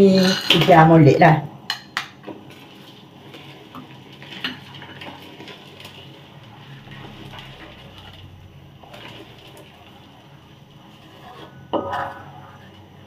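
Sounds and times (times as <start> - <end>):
spatula scraping pan: 1.7 - 13.0
spatula stirring in a wok: 1.7 - 13.0.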